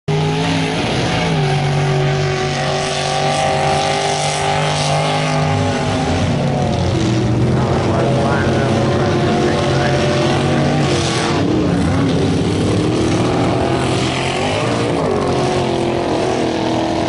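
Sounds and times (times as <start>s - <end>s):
tires throwing mud and water: 0.1s - 17.0s
truck engine at high power: 0.1s - 17.0s.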